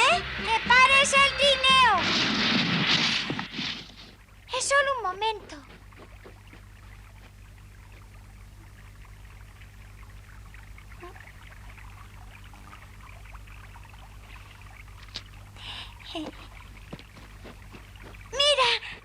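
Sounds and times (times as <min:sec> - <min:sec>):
low hum: 0:00.0 - 0:19.0
water trickling: 0:03.3 - 0:19.0.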